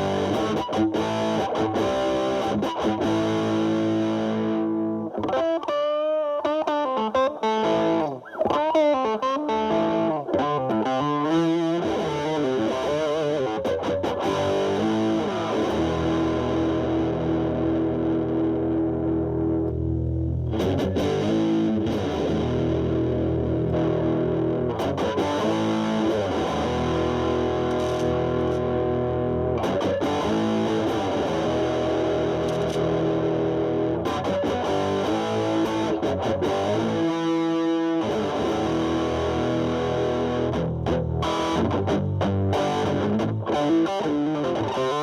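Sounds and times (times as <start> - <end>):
distorted electric guitar: 0.0 - 45.0.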